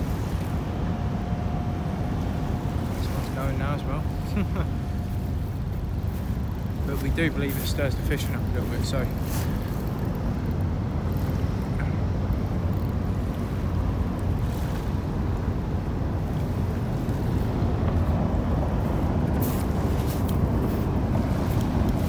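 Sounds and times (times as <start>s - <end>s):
ferry engines rumbling: 0.0s - 22.0s.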